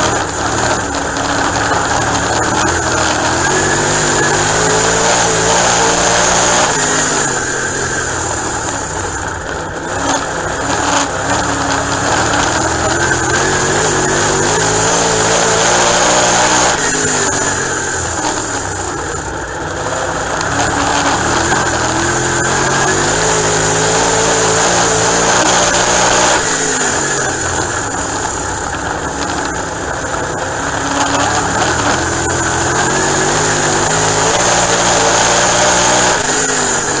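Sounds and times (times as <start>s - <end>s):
race car engine from cockpit: 0.0s - 37.0s.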